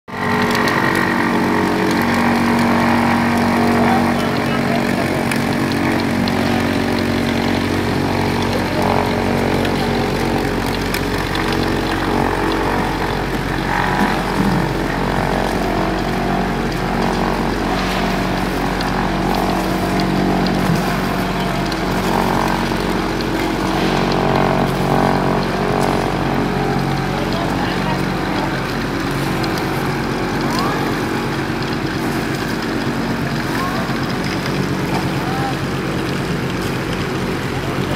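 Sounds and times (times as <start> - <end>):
vibrating screed motor drone: 0.1 - 37.9.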